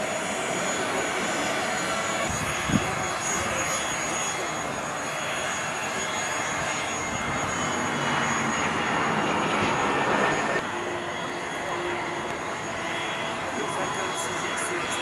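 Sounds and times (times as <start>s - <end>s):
jet engines at takeoff: 0.0s - 15.0s.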